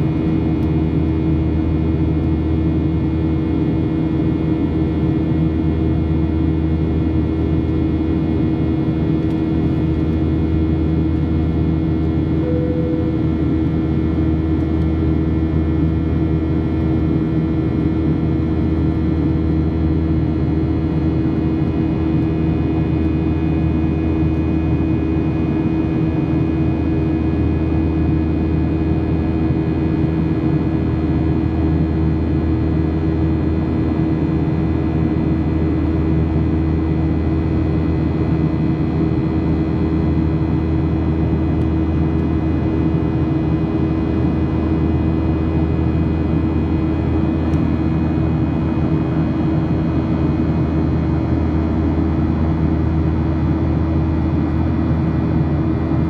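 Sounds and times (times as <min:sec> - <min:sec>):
buzzsaw fan tone: 0:00.0 - 0:56.0
jet engine and airflow rumble: 0:00.0 - 0:56.0.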